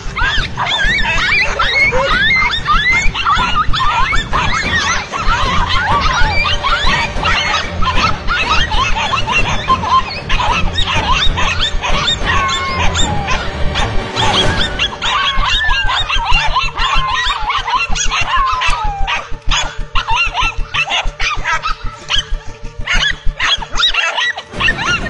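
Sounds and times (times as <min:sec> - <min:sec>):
background music: 0:00.0 - 0:25.0
dogs barking and yelping: 0:00.0 - 0:25.0
high squeals: 0:00.0 - 0:25.0.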